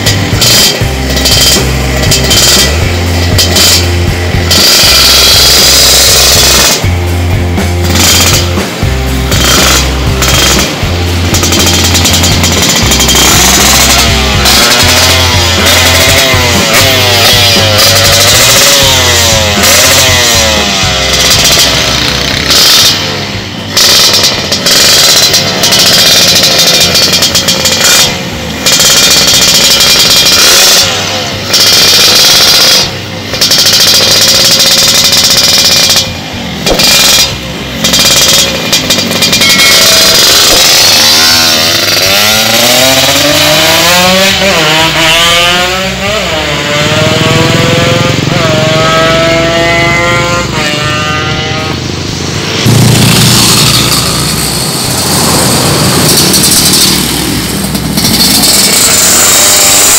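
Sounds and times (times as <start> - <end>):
two-stroke engine revving: 0.0 - 59.9.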